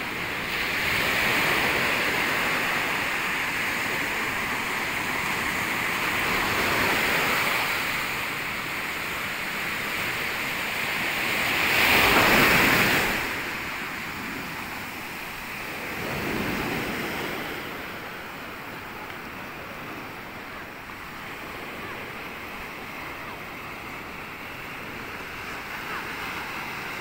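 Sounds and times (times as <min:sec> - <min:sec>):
ocean surf breaking on beach: 0:00.0 - 0:27.0.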